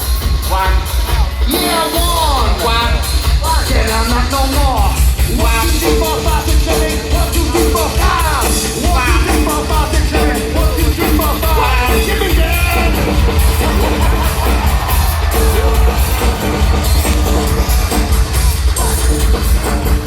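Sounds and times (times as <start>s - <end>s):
heavy bass: 0.0s - 20.0s
live rock band playing: 0.0s - 20.0s
vocals: 0.0s - 20.0s.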